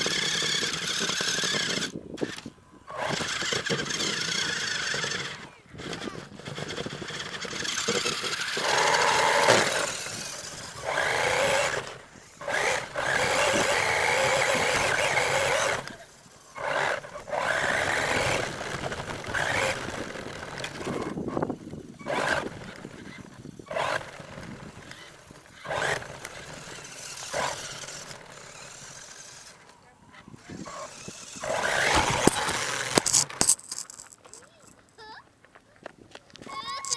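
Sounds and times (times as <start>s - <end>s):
toy truck motor bursts: 0.0s - 34.8s, 36.5s - 36.9s.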